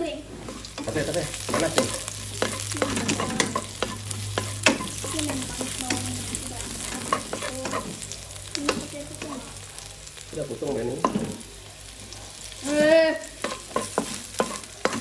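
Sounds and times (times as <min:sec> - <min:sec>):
shallots sizzling in hot oil: 0:00.0 - 0:15.0
spatula scraping a wok: 0:00.2 - 0:09.4, 0:11.0 - 0:11.5, 0:12.4 - 0:15.0.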